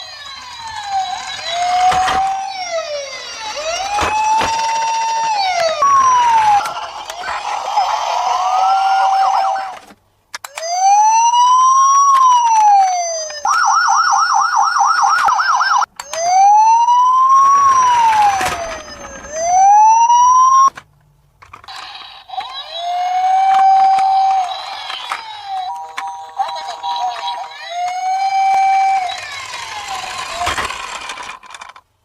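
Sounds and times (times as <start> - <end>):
toy electronic siren: 0.0 - 9.9, 10.5 - 20.7, 21.7 - 31.4.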